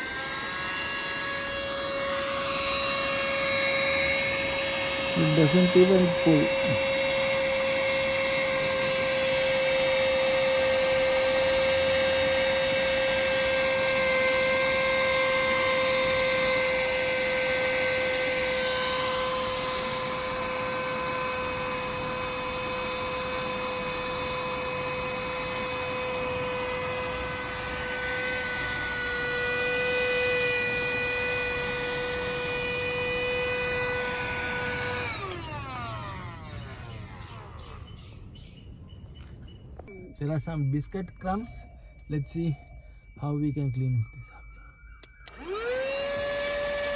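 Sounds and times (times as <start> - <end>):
handheld vacuum motor whine: 0.0 - 38.5, 44.3 - 46.9.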